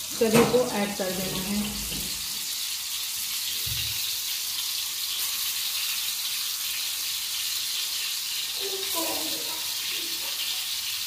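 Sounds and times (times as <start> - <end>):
kababs sizzling in hot oil: 0.0 - 11.0.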